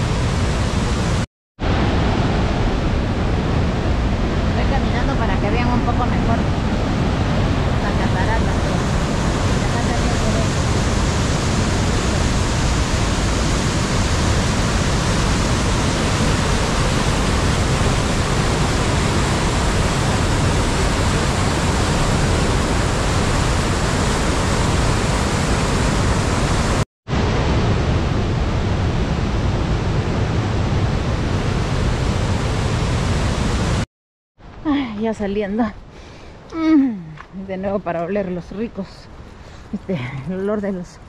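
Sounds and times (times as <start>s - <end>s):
waterfall rushing: 0.0s - 33.8s.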